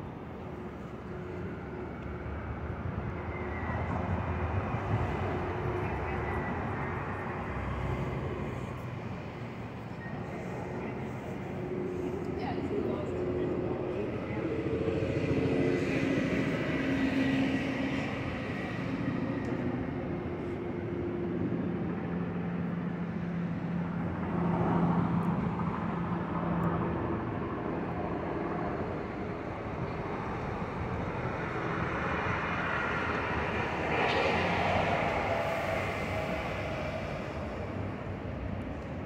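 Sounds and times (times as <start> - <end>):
engine hum: 0.0 - 39.0
rumble of passing vehicles: 0.0 - 39.0.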